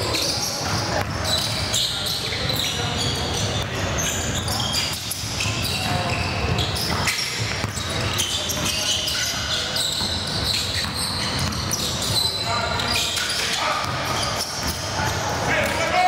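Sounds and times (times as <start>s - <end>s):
scattered voices: 0.0s - 16.0s
short high squeaks: 1.2s - 15.3s.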